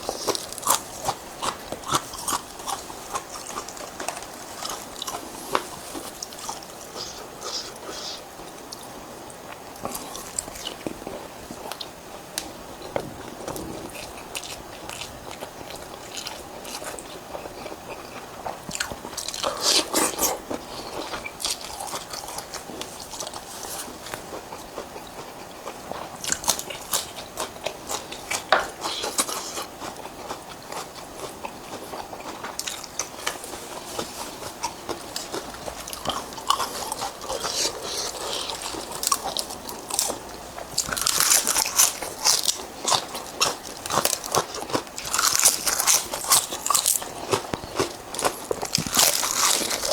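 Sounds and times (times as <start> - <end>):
crunching and chewing food: 0.0 - 49.9.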